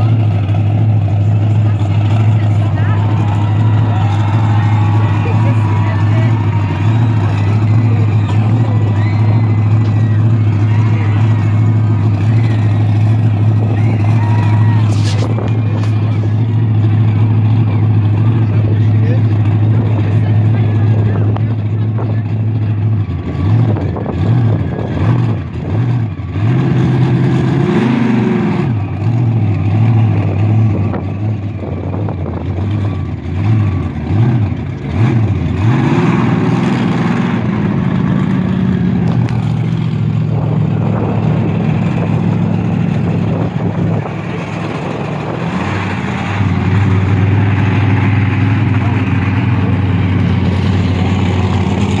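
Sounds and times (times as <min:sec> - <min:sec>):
truck engine revving: 0:00.0 - 0:52.0.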